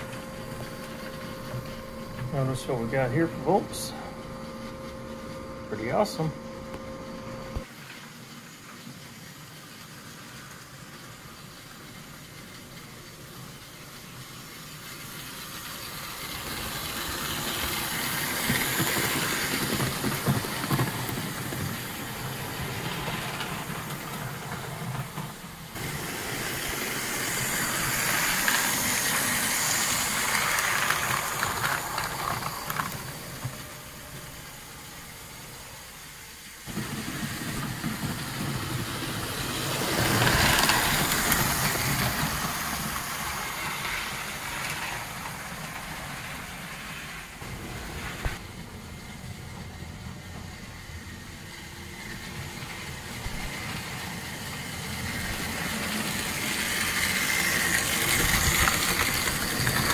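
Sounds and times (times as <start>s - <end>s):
locomotive motor: 0.0s - 7.7s, 14.8s - 59.9s
model train wheels on rail: 0.0s - 59.9s.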